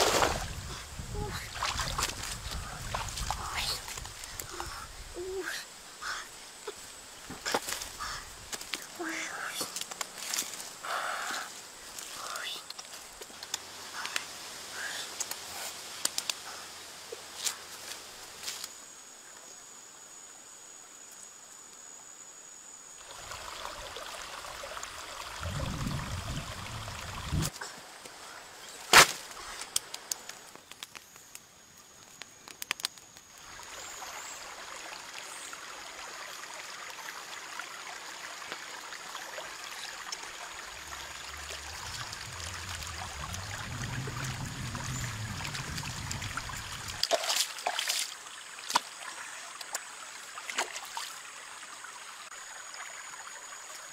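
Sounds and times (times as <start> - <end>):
water trickling over rocks: 0.0 - 16.5, 23.0 - 28.5, 29.4 - 53.9.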